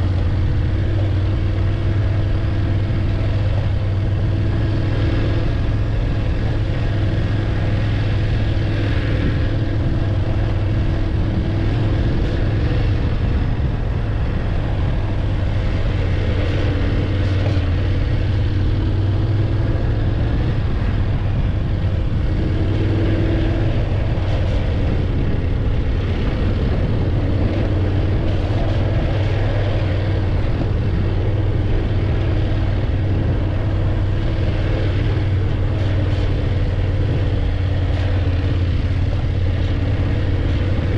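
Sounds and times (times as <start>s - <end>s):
motorcycle engine humming: 0.0s - 40.9s
rushing noise: 0.0s - 40.9s.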